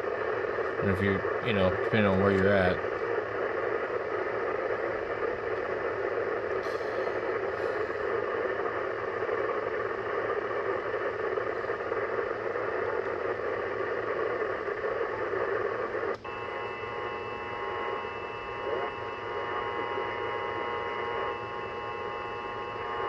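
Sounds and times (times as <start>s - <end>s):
radio static hiss: 0.0s - 23.0s
radio whistling tones: 0.0s - 23.0s.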